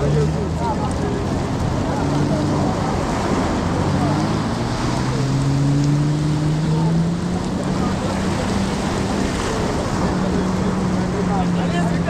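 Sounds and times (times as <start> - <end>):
engine humming: 0.0 - 12.0
surf: 0.0 - 12.0
wind: 0.0 - 12.0.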